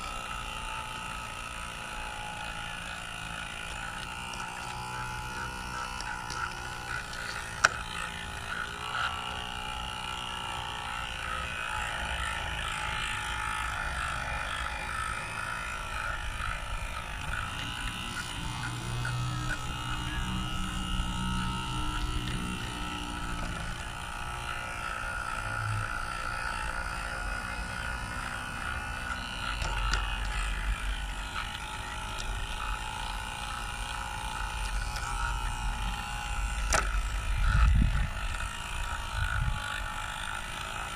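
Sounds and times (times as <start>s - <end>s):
model locomotive whirring: 0.0s - 40.9s.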